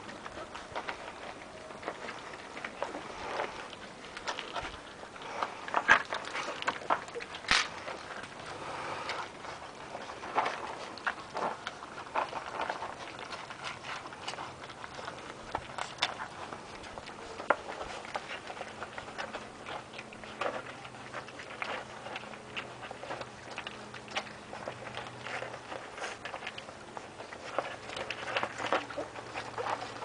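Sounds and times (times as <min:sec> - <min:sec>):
puppies lapping and smacking: 0:00.0 - 0:30.0.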